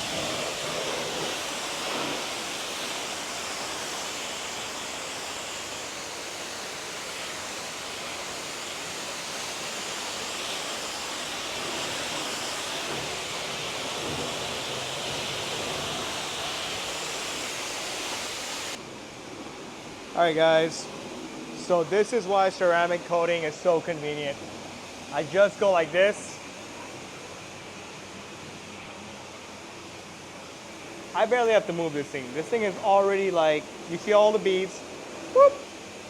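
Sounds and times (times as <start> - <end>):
hose spraying water on car: 0.0 - 19.0, 19.6 - 36.0.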